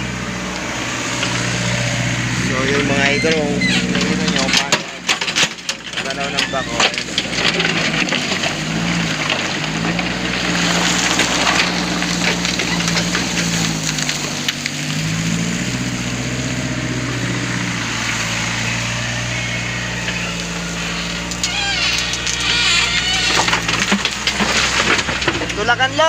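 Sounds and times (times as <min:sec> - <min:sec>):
diesel engine working: 0:00.0 - 0:26.0
scraping of sand and gravel: 0:00.0 - 0:26.0.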